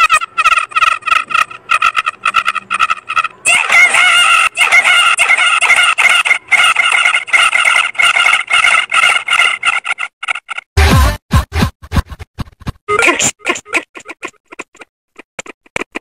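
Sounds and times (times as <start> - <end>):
distorted high-pitched cartoon audio: 0.0 - 11.7, 12.9 - 14.3.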